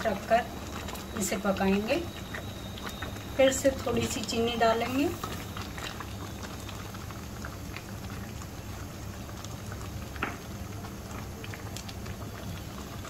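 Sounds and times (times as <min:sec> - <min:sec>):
milk bubbling and sputtering: 0:00.0 - 0:13.0.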